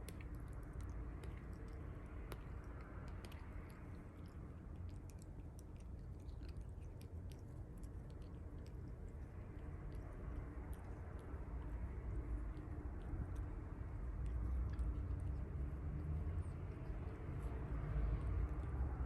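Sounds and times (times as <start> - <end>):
cat chewing claws clicks: 0.0 - 19.0
low background hum: 0.0 - 19.0.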